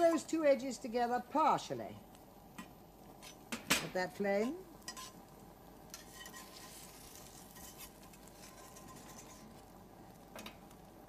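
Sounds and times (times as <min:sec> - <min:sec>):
omelette sizzling in a frying pan: 0:00.0 - 0:11.0.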